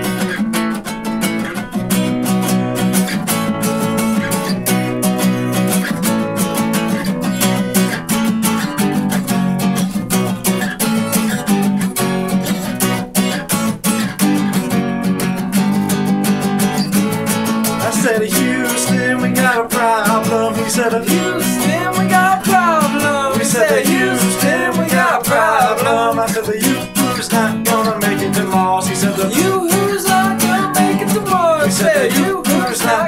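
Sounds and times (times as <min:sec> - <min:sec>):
acoustic guitars strumming chords: 0:00.0 - 0:33.0.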